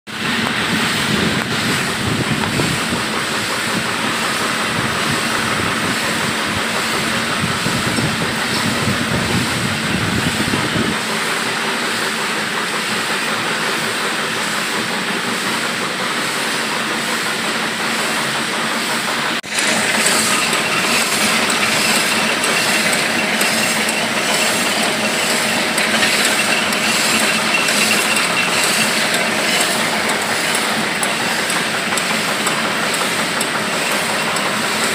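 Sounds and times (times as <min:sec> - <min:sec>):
machines rhythmic metallic clatter: 0:00.1 - 0:34.9.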